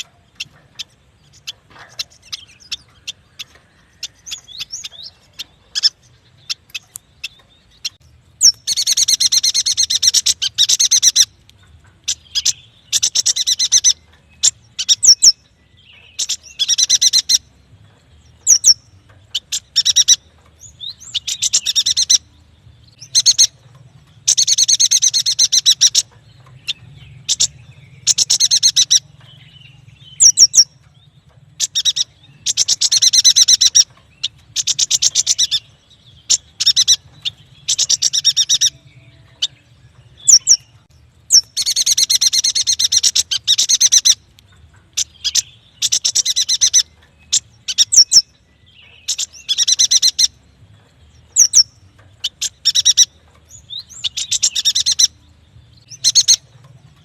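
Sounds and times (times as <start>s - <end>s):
bird chattering trills: 0.0s - 11.4s, 12.0s - 17.6s, 18.4s - 50.4s, 51.2s - 55.2s, 55.8s - 57.0s.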